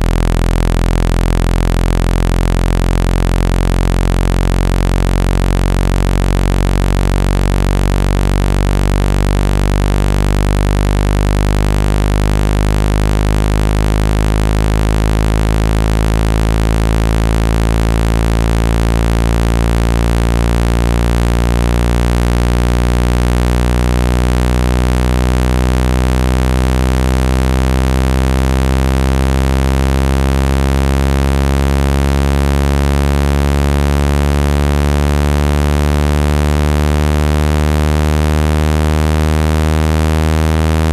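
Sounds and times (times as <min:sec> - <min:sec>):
loud low buzz tone: 0:00.0 - 0:40.9.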